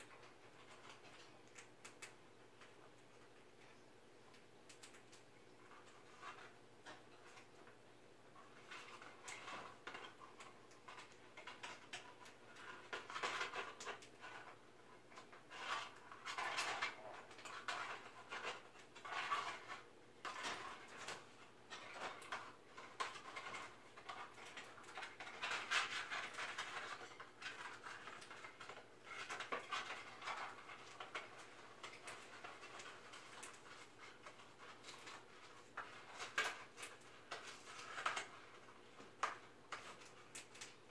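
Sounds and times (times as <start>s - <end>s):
parrot chewing cardboard: 4.4s - 40.9s.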